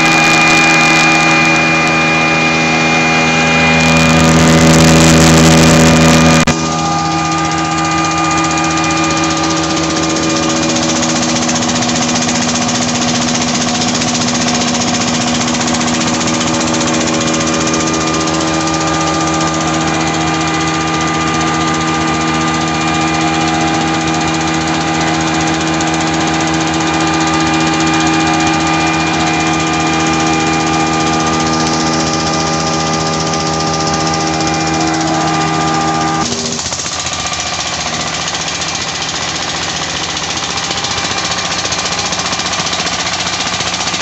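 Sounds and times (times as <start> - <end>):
diesel engine running: 0.0 - 44.0
flour mill turning: 0.0 - 44.0.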